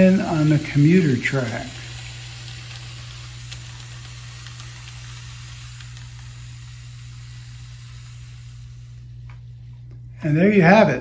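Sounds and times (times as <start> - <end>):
even hiss: 0.0 - 11.0
low hum: 0.0 - 11.0.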